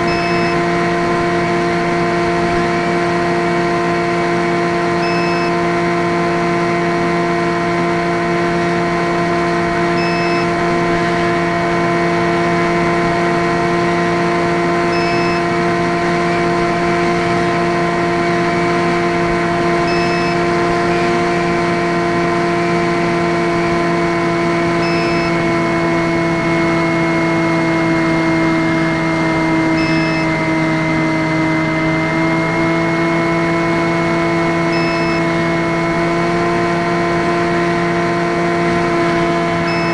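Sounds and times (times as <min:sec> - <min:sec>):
electric motor and propeller droning: 0:00.0 - 0:39.9.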